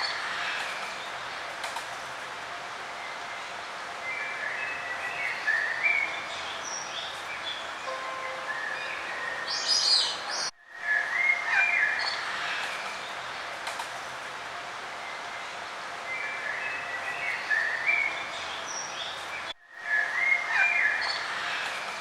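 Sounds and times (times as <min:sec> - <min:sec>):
songbirds chirping and warbling: 0:02.7 - 0:13.6, 0:14.6 - 0:22.0.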